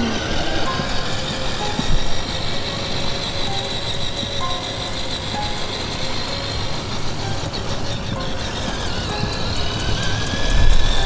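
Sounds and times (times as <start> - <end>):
simulated truck engine rumble: 0.0 - 11.0.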